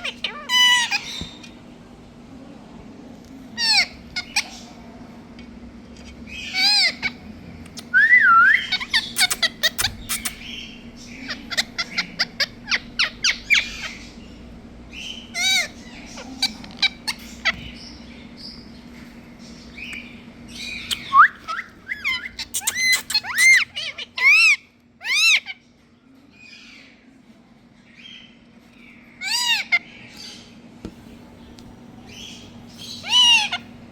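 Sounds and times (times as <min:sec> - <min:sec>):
parrots squawking and chirping: 0:00.0 - 0:01.6, 0:03.6 - 0:04.8, 0:06.0 - 0:07.3, 0:08.5 - 0:27.0, 0:28.0 - 0:30.6, 0:32.0 - 0:33.9.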